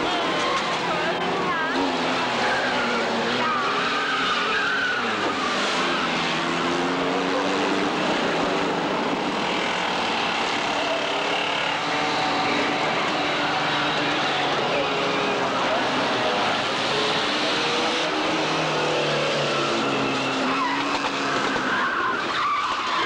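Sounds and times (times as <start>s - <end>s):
race car engines revving: 0.0s - 23.0s
rumble of tyres and track: 0.0s - 23.0s
tyres squealing and skidding: 0.0s - 23.0s.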